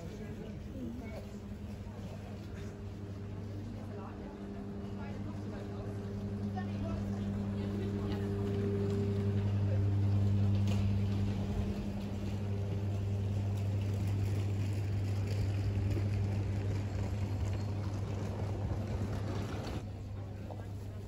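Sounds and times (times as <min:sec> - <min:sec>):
low mechanical hum: 0:00.0 - 0:21.0
street ambience: 0:00.0 - 0:21.0.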